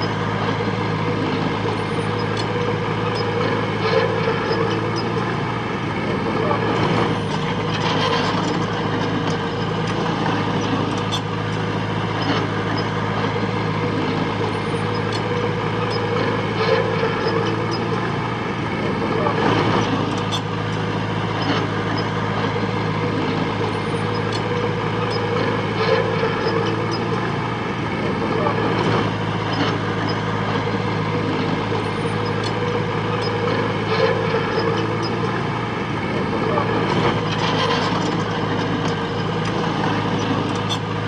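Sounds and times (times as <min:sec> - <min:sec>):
heavy machinery diesel engine: 0:00.0 - 0:41.0.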